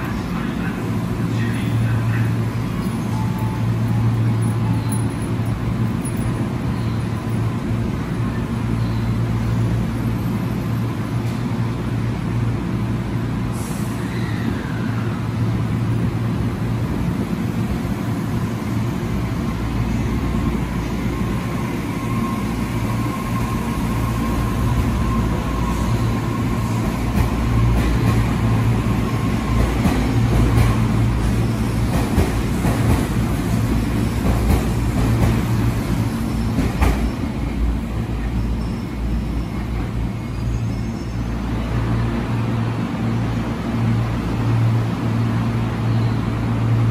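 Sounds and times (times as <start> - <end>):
electric train hum: 0.0 - 46.9
train pulling out: 0.0 - 46.9.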